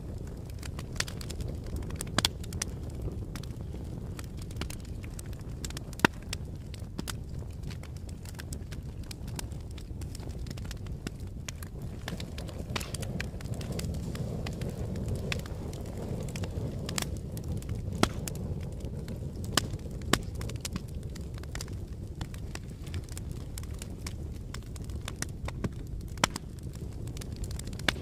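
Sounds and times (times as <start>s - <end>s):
fire crackling and popping: 0.0s - 28.0s
fire rushing: 0.0s - 28.0s.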